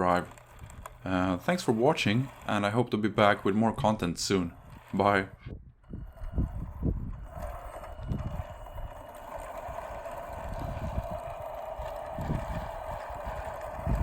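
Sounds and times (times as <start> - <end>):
wind rumbling on microphone: 0.0 - 1.2, 3.6 - 14.0
electric motor and gearbox whine: 0.0 - 14.0.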